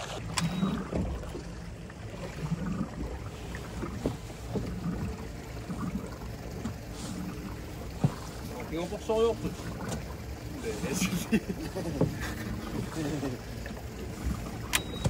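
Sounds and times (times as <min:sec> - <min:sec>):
water lapping against boat hulls: 0:00.0 - 0:15.0.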